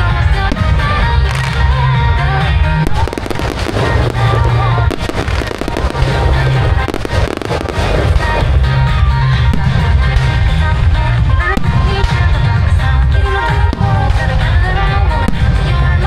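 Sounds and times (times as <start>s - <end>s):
fireworks bursts and crackling: 0.0s - 16.0s
music with heavy bass beat: 0.0s - 16.0s.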